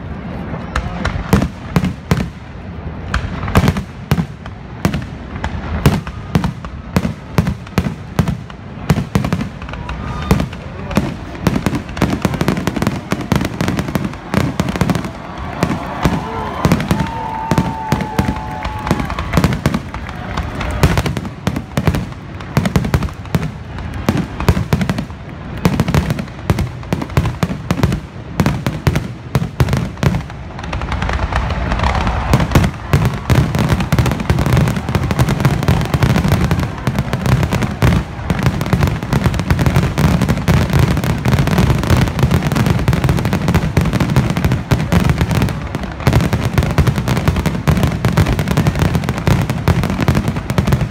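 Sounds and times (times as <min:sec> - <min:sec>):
fireworks booming and crackling: 0:00.0 - 0:50.9.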